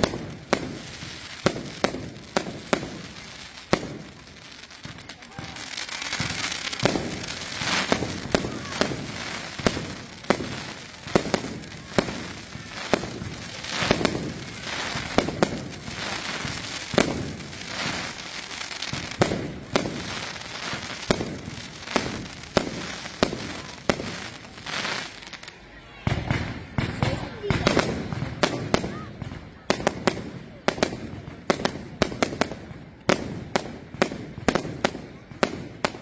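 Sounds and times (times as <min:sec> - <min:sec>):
fireworks bangs: 0:00.0 - 0:36.0
fireworks crackling hiss: 0:00.0 - 0:36.0.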